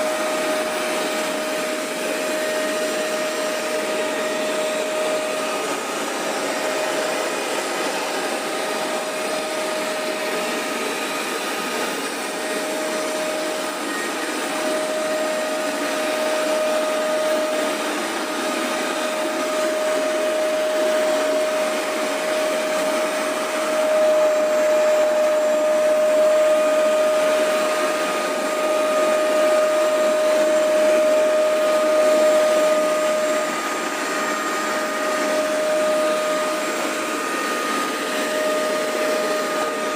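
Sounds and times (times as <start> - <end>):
carpet cleaner motor whining: 0.0 - 39.9.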